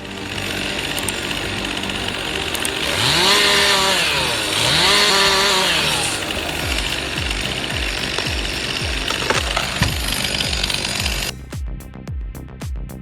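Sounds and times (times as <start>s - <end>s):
chainsaw revving: 0.0s - 11.3s.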